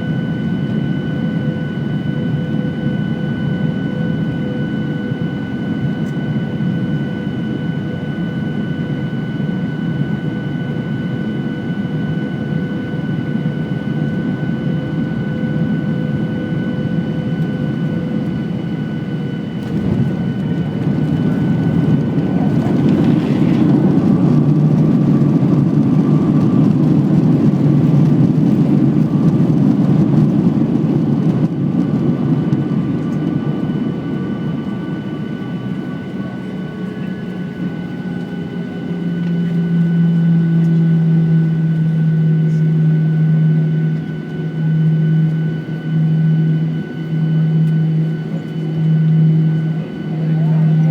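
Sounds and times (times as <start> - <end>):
jet engines whining: 0.0 - 50.9.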